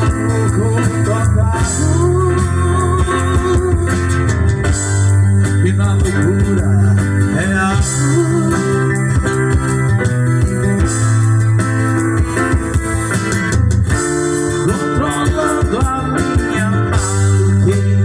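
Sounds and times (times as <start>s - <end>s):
bass guitar: 0.0s - 18.0s
drums: 0.0s - 18.0s
electric guitar melody: 0.0s - 18.0s
keyboard: 0.0s - 18.0s.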